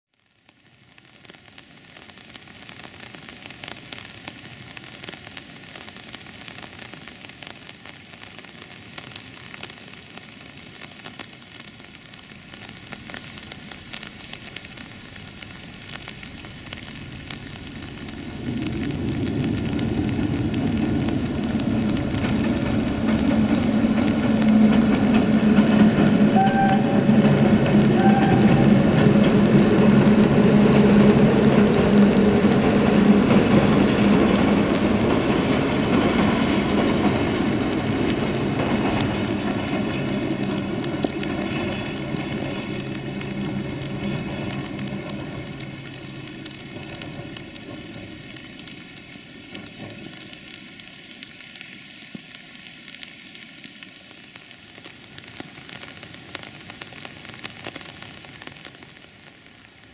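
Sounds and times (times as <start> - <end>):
steady rain hiss: 0.1 - 59.9.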